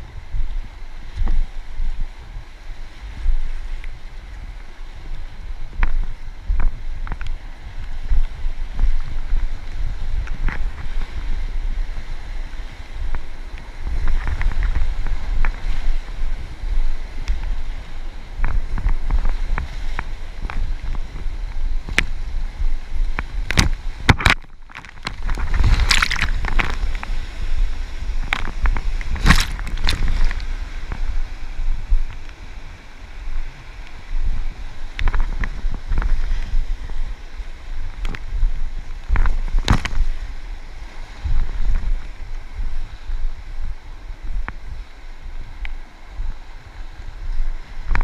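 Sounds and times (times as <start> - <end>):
water splashing around kayak: 0.0 - 48.0
wind rumble on microphone: 0.0 - 48.0.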